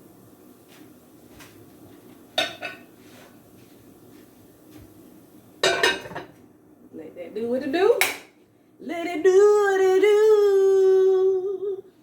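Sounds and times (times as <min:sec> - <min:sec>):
low kitchen background: 0:00.0 - 0:12.0.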